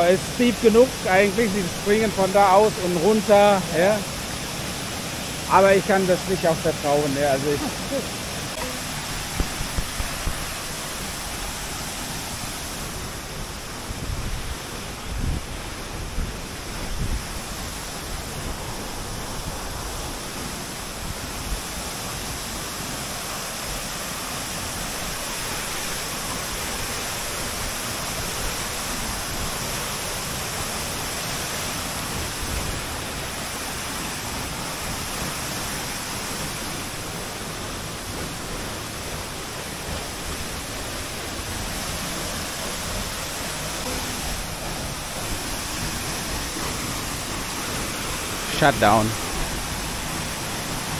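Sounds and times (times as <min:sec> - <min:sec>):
stream running over stones: 0:00.0 - 0:50.9
waterfall pouring into pool: 0:00.0 - 0:50.9.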